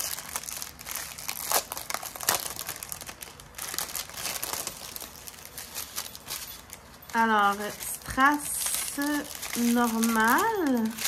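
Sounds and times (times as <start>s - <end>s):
plastic packets crinkling: 0.0s - 11.0s.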